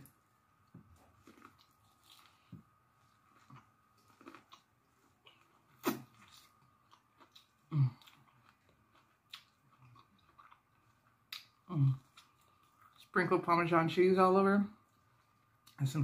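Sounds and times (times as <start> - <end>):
person chewing food: 0.0 - 13.2.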